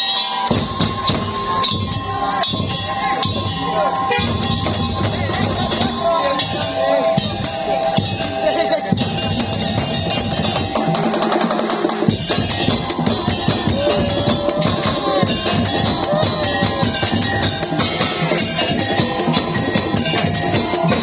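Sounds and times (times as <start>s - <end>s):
wavering melody line: 0.0s - 11.5s, 12.1s - 21.0s
fast drumming: 0.5s - 21.0s.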